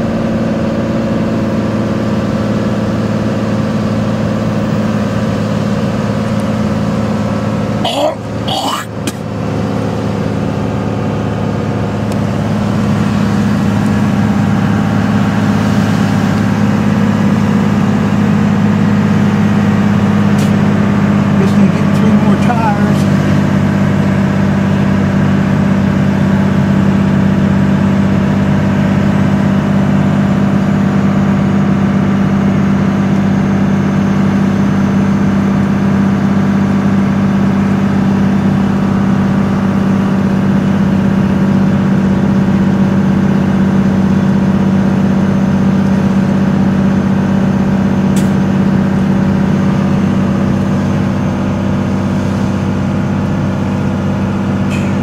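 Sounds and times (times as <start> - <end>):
diesel engine droning under load: 0.0 - 55.0.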